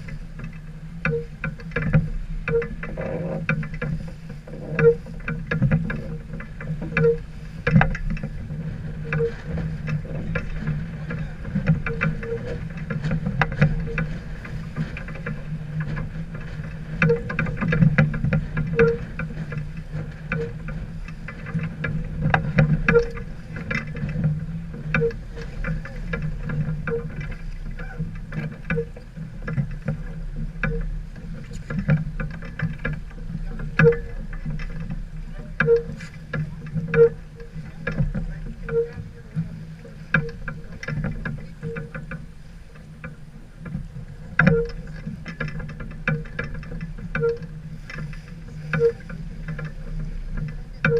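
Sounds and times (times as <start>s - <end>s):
light clicks and knocks: 0.0s - 50.9s
steady low hum: 0.0s - 50.9s
water noise: 0.0s - 50.9s.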